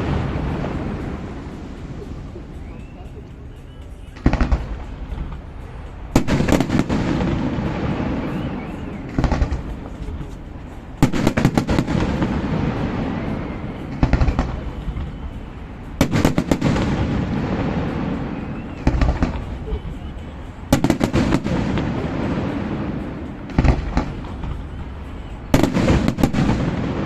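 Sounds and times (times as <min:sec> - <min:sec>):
fireworks bangs: 0:00.0 - 0:03.0, 0:04.1 - 0:27.0
fireworks rumble: 0:00.0 - 0:27.0.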